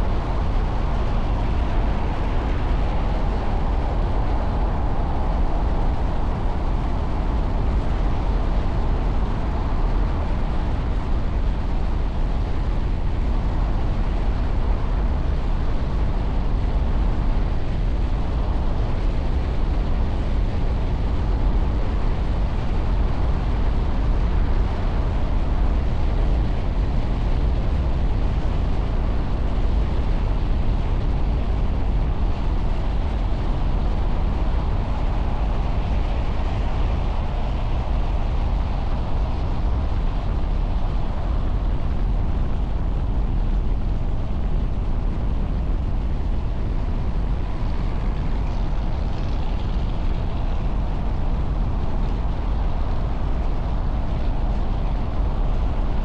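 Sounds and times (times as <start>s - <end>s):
city traffic rumble: 0.0s - 56.0s.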